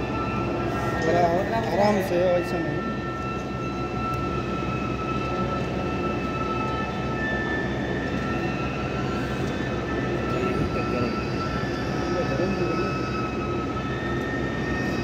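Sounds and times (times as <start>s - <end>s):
high-pitched machine whine: 0.0s - 15.0s
industrial machinery hum: 0.0s - 15.0s.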